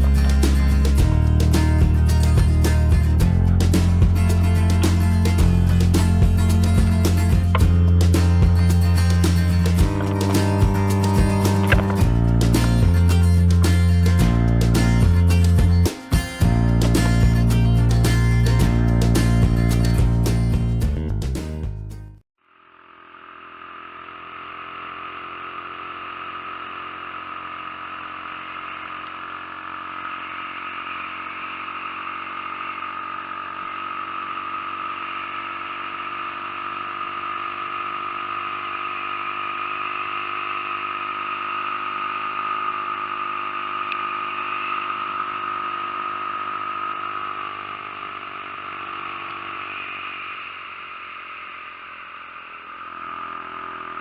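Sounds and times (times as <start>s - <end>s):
moped engine running: 0.0s - 21.9s, 22.6s - 54.0s.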